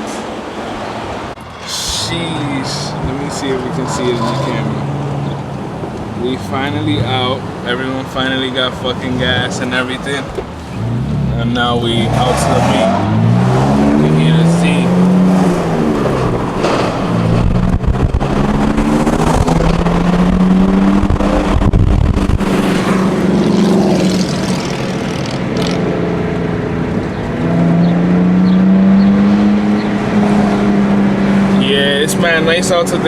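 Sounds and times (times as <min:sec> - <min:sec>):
car engine accelerating: 0:01.3 - 0:33.0.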